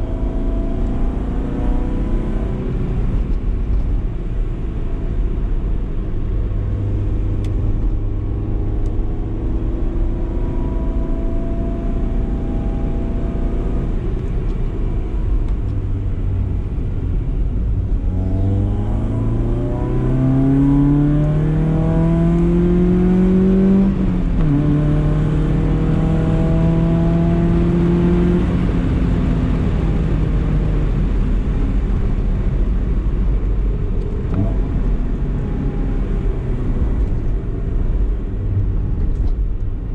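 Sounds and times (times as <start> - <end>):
low road rumble: 0.0 - 39.9
car engine revving: 6.4 - 39.4.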